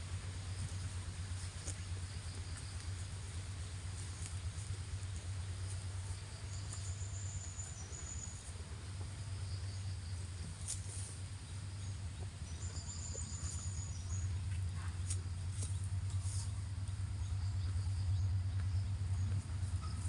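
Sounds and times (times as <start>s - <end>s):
grass being cropped: 0.0s - 9.2s, 9.9s - 17.1s
steady low hum: 0.0s - 20.0s.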